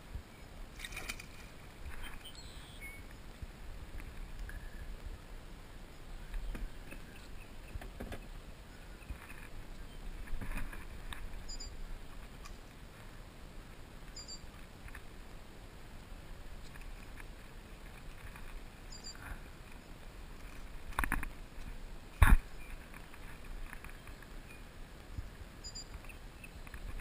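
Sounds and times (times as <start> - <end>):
hiss of wind and water: 0.0 - 27.0.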